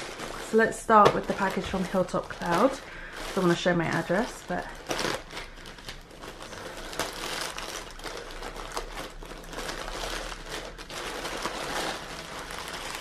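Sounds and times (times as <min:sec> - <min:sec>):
plastic bag crinkling and tearing: 0:00.0 - 0:13.0
sharp plastic crackles: 0:00.0 - 0:13.0.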